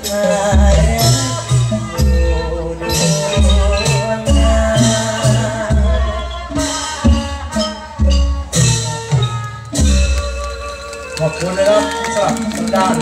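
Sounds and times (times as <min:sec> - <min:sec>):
bass drum beat: 0:00.0 - 0:10.9
held melody line: 0:00.0 - 0:13.0
shaker percussion: 0:00.0 - 0:13.0.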